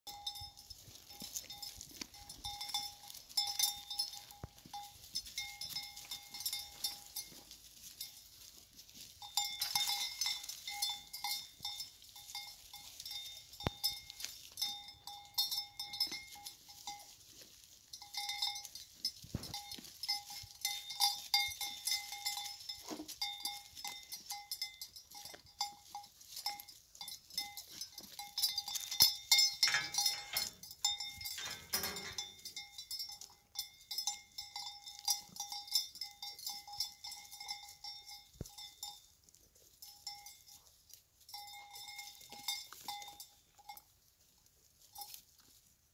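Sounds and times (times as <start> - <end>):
goat bell clanking: 0.1 - 45.9.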